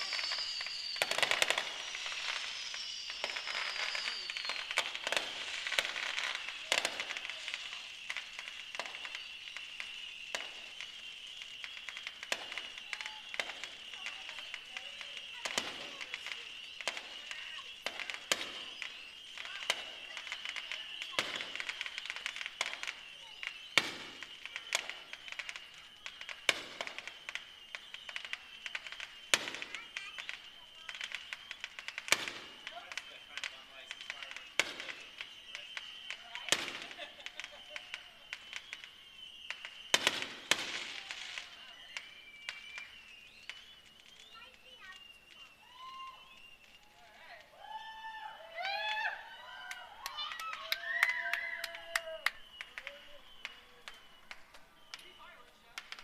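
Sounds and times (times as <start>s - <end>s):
distant fireworks crackling and popping: 0.0s - 56.0s.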